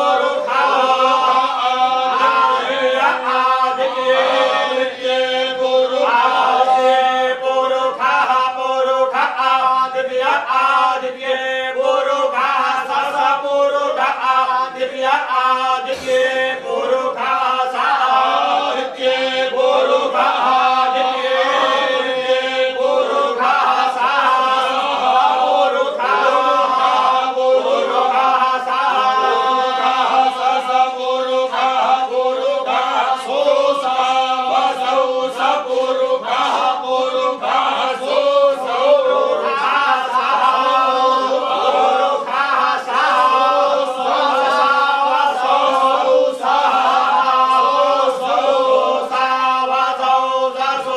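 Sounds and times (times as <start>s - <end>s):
men chanting in unison: 0.0s - 50.9s.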